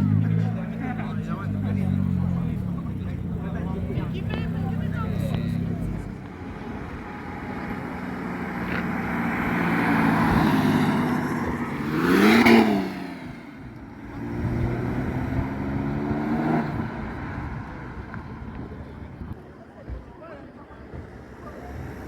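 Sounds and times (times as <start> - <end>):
car engine revving past: 0.0 - 19.4
second car engine: 0.0 - 19.7.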